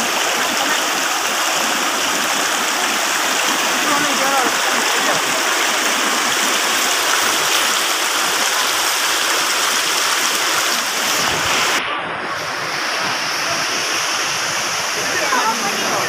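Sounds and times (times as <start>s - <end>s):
river rushing over boulders: 0.0s - 16.0s.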